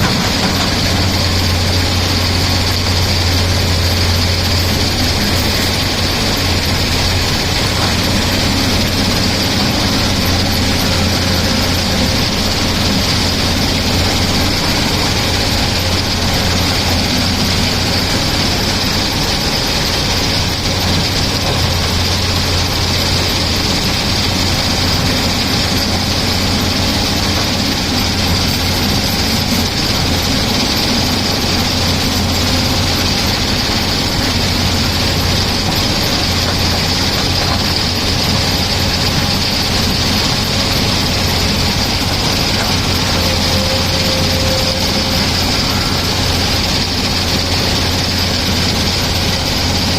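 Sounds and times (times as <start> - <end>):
excavator diesel engine hum: 0.0 - 49.9.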